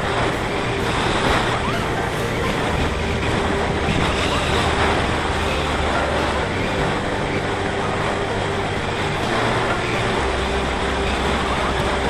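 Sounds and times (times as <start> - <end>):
low hum: 0.0 - 12.0
wind rushing over microphone: 0.0 - 12.0.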